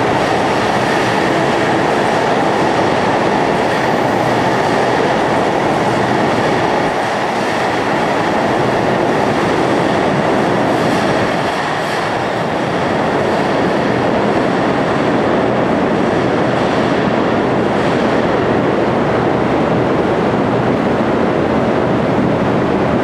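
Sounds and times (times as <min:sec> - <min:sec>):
train rumbling in tunnel: 0:00.0 - 0:23.0.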